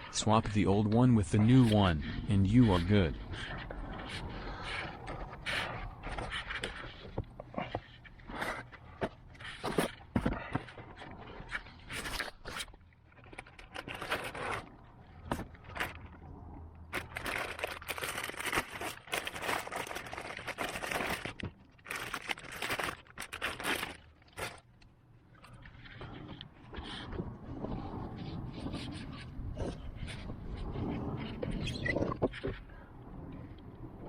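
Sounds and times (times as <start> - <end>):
plastic scraping and clicking: 0.4 - 33.9.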